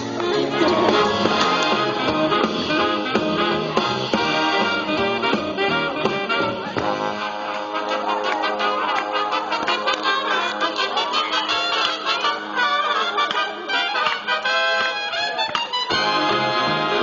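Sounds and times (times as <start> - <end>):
dance music with brass: 0.0 - 17.0.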